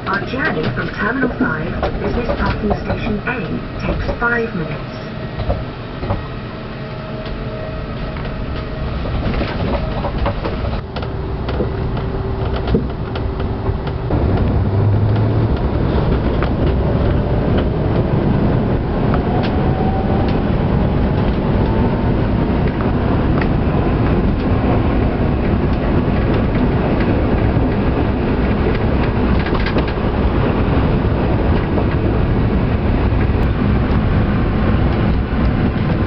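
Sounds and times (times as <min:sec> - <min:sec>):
rubber tyres rumbling: 0:07.0 - 0:36.0.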